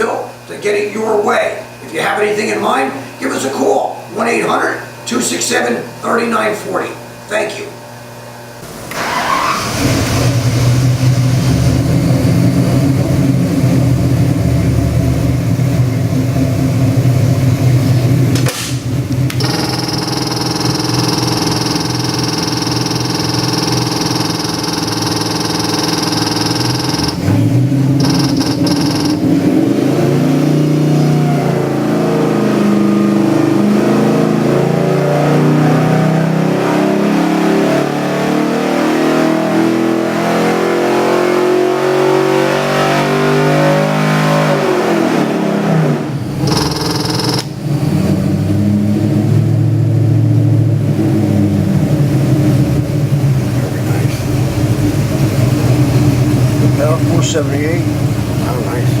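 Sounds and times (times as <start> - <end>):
car engine idling and revving: 8.7 - 59.0.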